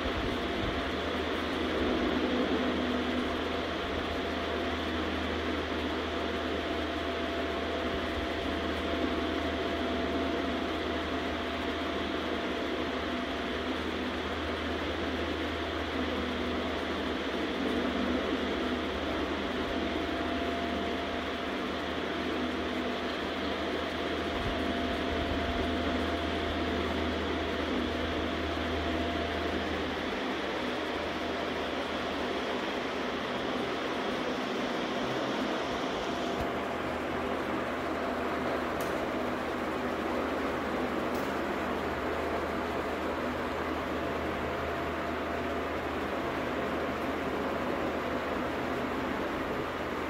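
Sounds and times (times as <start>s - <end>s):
machine hum and hiss: 0.0s - 50.0s
thin constant whine: 0.0s - 50.0s.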